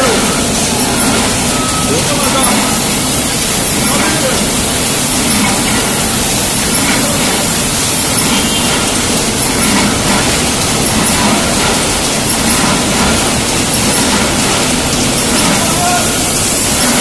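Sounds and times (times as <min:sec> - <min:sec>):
production line machinery: 0:00.0 - 0:17.0.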